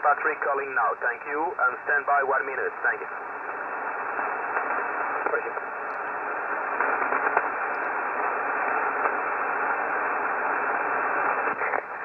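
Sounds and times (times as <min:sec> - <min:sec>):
shortwave radio hiss: 0:00.0 - 0:12.0.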